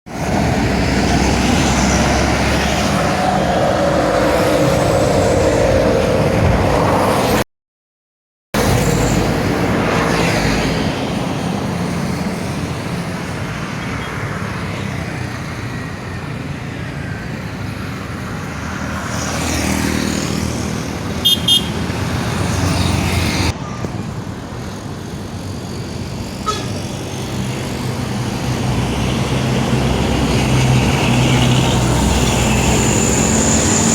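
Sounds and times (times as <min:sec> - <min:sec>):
highway traffic: 0:00.1 - 0:07.5, 0:08.6 - 0:33.9.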